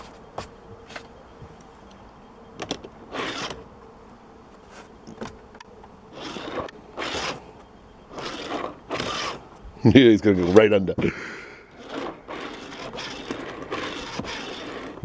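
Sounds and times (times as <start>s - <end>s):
scraping rustling sounds: 0.0s - 10.7s, 11.4s - 15.0s
faint steady hum: 0.0s - 15.0s.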